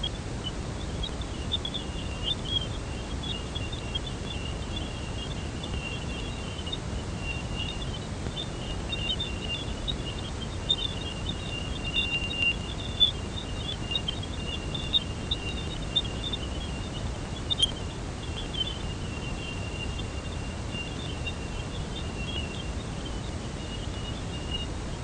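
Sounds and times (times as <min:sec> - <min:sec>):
thin high whistle: 0:00.0 - 0:24.8
low rushing hiss: 0:00.0 - 0:25.0.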